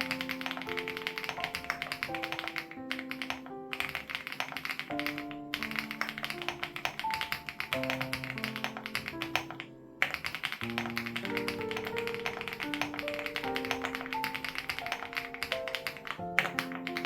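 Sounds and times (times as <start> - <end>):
background music with held notes: 0.0 - 17.0
mechanical keyboard typing: 0.0 - 17.0.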